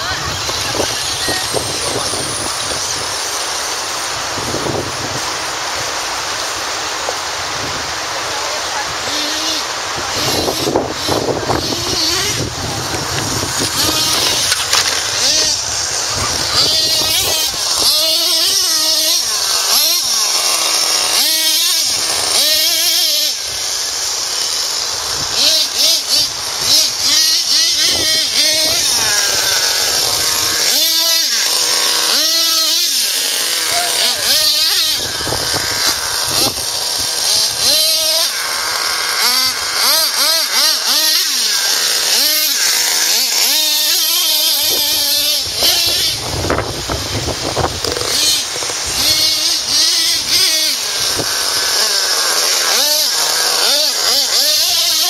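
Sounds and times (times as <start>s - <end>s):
small engine revving high buzz: 0.0s - 55.0s.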